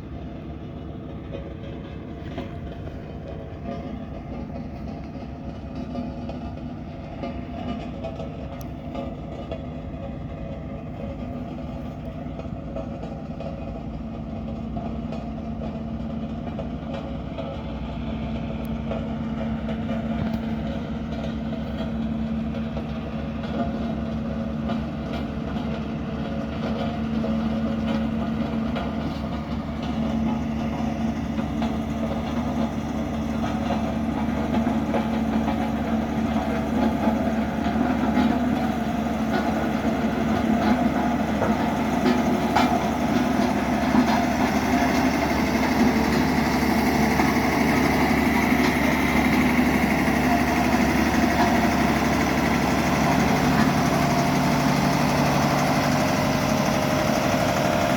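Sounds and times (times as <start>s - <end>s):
road roller diesel engine running: 0.0s - 57.9s.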